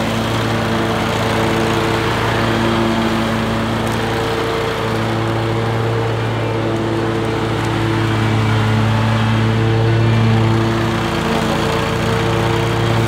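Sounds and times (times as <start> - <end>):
mower blades whirring: 0.0 - 13.0
mower engine hum: 0.0 - 13.0.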